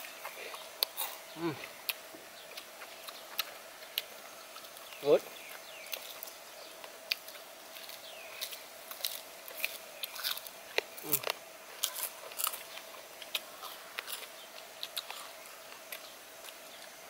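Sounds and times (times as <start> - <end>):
crunching crispy fried food: 0.0 - 17.0.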